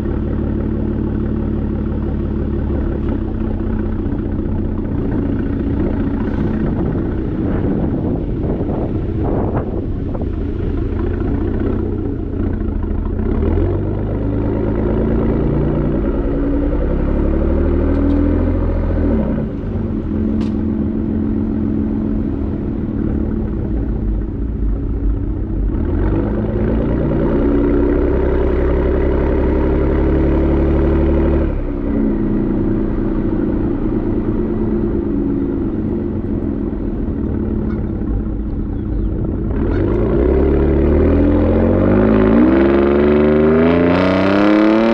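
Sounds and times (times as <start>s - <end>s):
truck engine exhaust: 0.0s - 44.9s.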